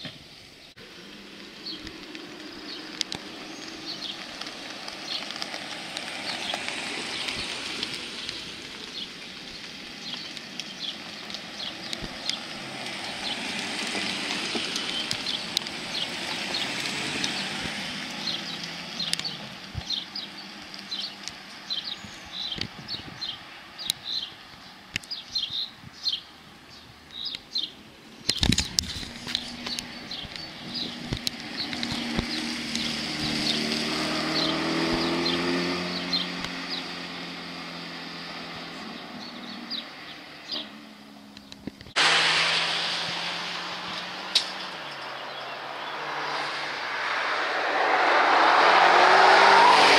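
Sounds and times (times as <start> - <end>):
birds chirping: 0.0 - 49.9
cars driving past: 0.8 - 26.7, 27.6 - 49.9.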